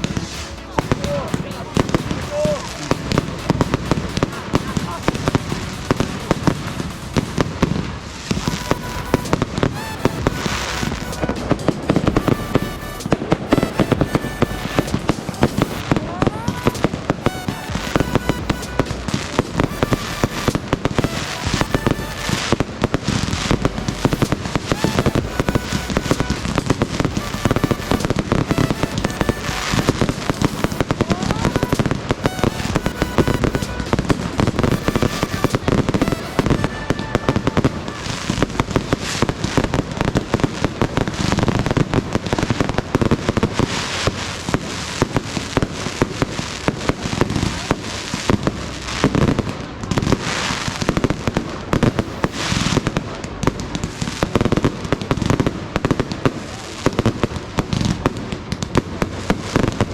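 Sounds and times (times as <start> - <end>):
rising firework whistle: 0.0 - 57.1
fireworks bangs and crackles: 0.0 - 59.9.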